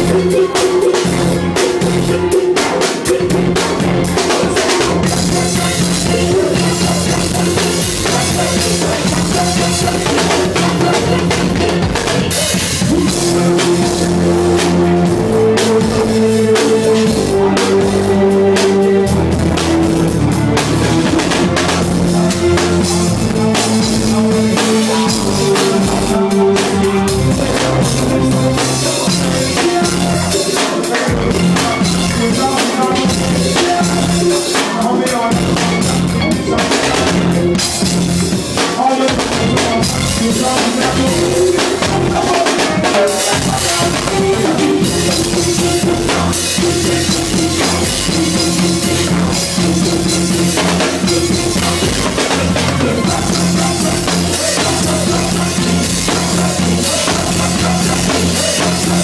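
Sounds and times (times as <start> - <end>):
drum kit hits: 0.0 - 59.0
live band music: 0.0 - 59.0.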